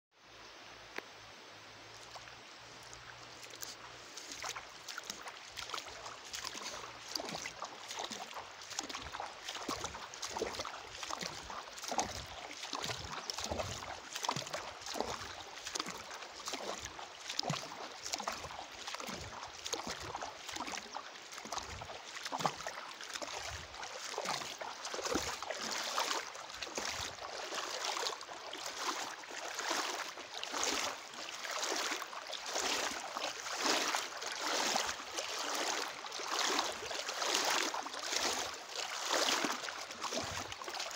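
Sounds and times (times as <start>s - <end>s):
river water splashing: 0.4s - 40.9s.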